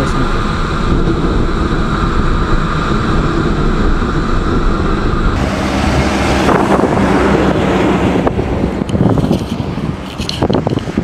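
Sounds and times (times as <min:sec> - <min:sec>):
wind on microphone: 0:00.0 - 0:11.0
heavy truck rushing past: 0:00.2 - 0:11.0.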